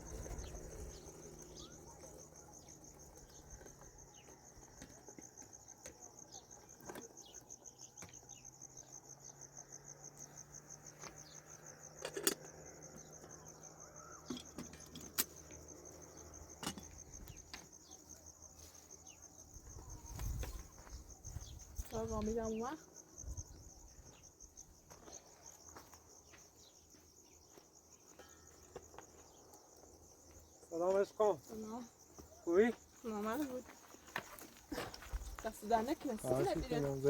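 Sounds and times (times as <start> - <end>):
insect chirring: 0.0 - 37.0.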